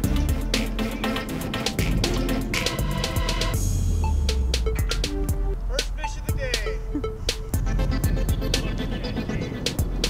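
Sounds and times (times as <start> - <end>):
drum beat with melodic notes: 0.0 - 8.9, 9.6 - 10.0.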